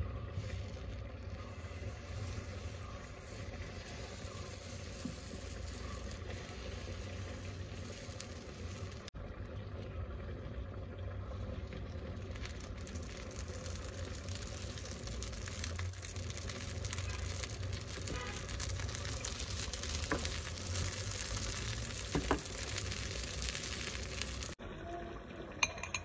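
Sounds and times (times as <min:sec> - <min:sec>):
pancakes sizzling in pan: 0:00.4 - 0:09.2, 0:11.6 - 0:24.6.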